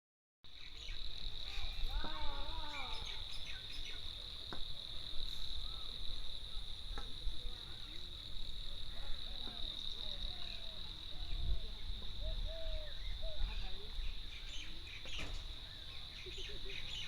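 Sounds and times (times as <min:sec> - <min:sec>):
crickets chirping: 0:00.5 - 0:17.0
faint distant voice: 0:01.5 - 0:17.0.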